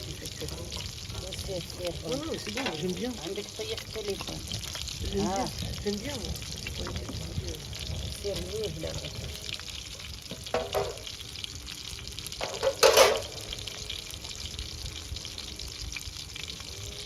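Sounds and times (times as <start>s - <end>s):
food sizzling over wood fire: 0.0s - 17.0s.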